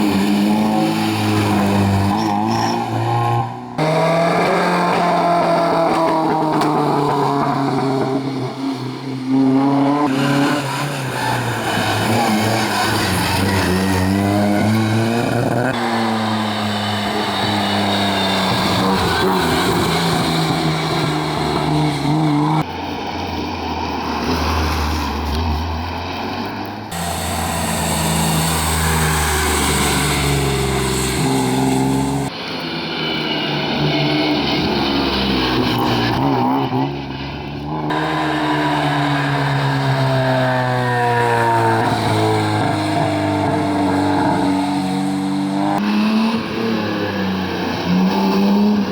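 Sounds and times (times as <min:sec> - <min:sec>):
rally car engines revving: 0:00.0 - 0:48.9.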